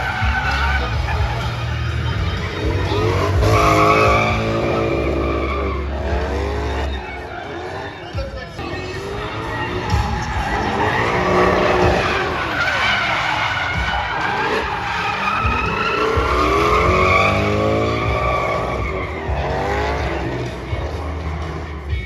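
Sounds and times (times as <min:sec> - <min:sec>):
tyre squeal: 0:00.0 - 0:21.9
car engines revving: 0:00.0 - 0:22.0.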